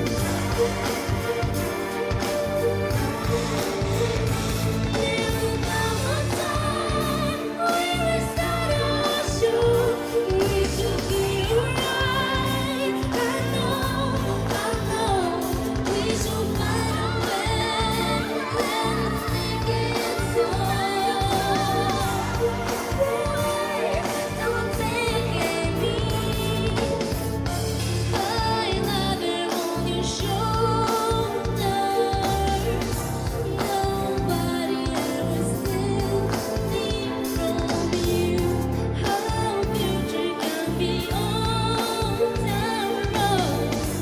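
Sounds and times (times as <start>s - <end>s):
person singing pop song: 0.0s - 44.0s.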